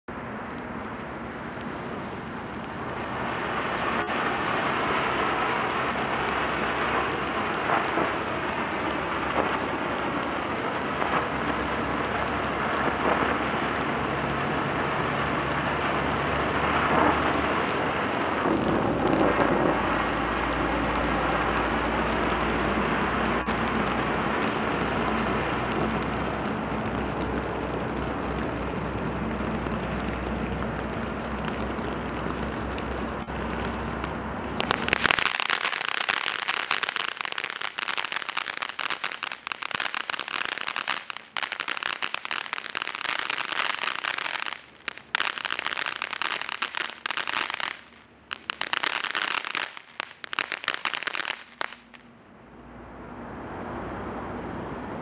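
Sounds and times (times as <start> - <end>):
firework fountain hissing: 0.1 - 52.1
firework crackles: 0.1 - 52.2.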